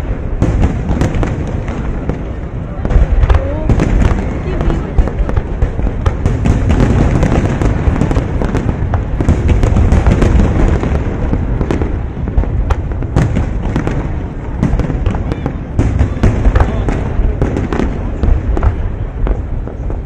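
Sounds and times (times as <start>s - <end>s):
fireworks booming and cracking: 0.0s - 20.0s.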